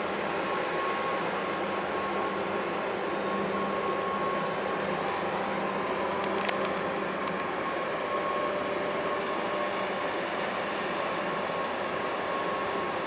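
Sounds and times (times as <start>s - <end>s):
ship machinery hum: 0.0s - 13.0s.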